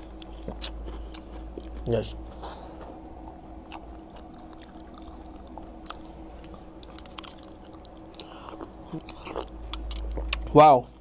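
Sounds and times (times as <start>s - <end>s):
person chewing cereal: 0.0s - 11.0s.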